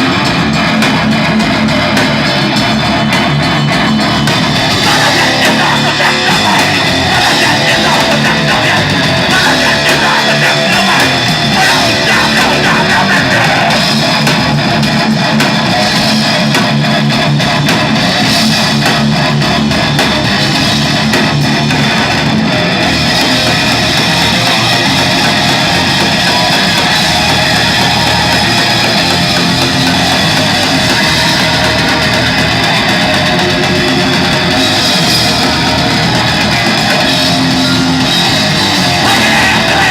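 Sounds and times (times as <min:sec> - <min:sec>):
electric guitars: 0:00.0 - 0:39.9
live rock band playing: 0:00.0 - 0:39.9.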